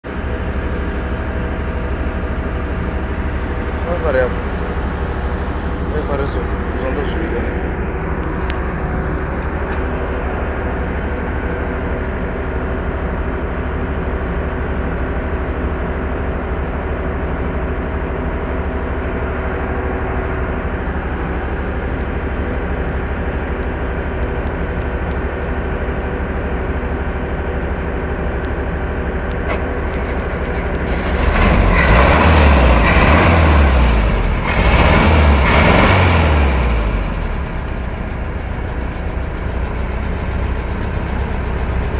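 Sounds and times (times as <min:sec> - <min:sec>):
car engine idling and revving: 0:00.2 - 0:41.9.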